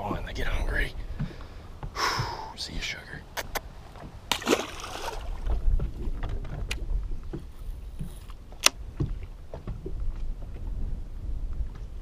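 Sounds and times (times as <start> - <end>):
boat low rumble: 0.0 - 12.0.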